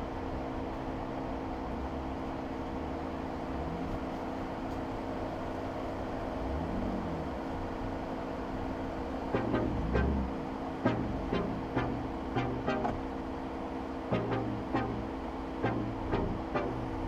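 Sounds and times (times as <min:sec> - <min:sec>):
engine and road noise drone: 0:00.0 - 0:17.0.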